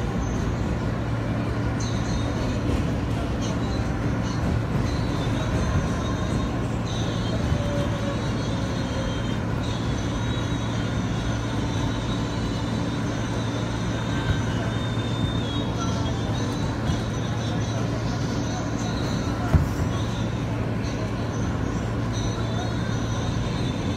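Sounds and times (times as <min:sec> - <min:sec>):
train rumbling: 0:00.0 - 0:23.9
faint high whine: 0:03.3 - 0:23.9.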